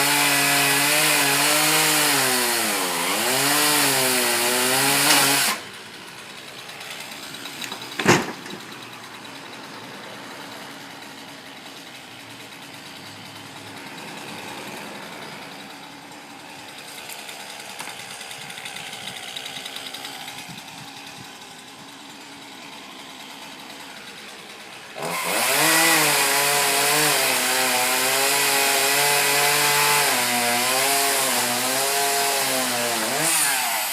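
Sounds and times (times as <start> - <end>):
chainsaw revving: 0.0 - 33.9.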